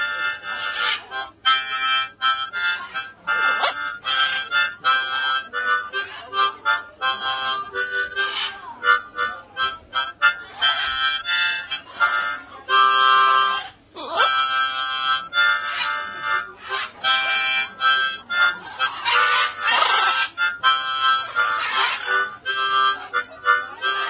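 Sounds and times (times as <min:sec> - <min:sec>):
harmonica playing a quick tune: 0:00.0 - 0:24.0.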